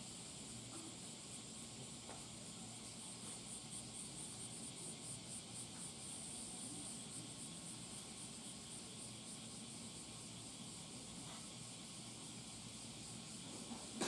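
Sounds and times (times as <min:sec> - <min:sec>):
faint insect chirping: 0:00.0 - 0:14.0
steady hiss: 0:00.0 - 0:14.0.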